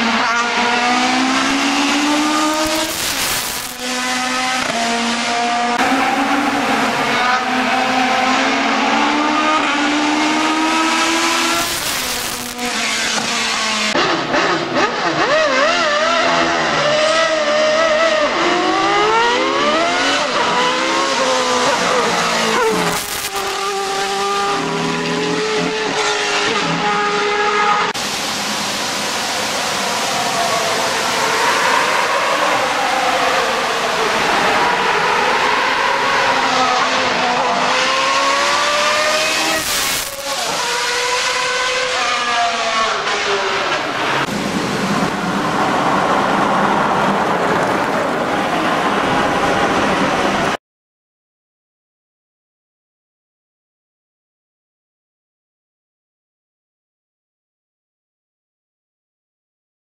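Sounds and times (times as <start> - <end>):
formula car revving: 0.0 - 50.6
racing car engines at full throttle: 0.0 - 50.6.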